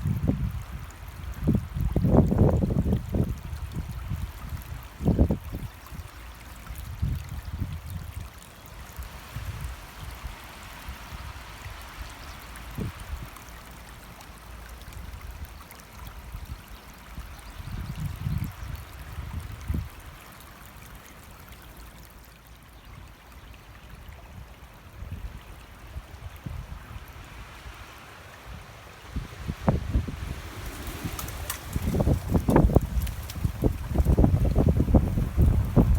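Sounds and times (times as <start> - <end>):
stream water flowing: 0.0 - 35.9.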